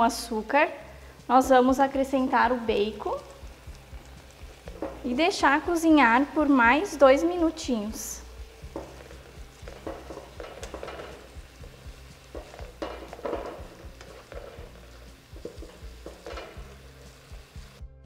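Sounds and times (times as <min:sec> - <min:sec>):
jam sizzling in a frying pan: 0:00.0 - 0:17.9
spatula stirring and scraping: 0:02.6 - 0:06.4, 0:07.0 - 0:17.8.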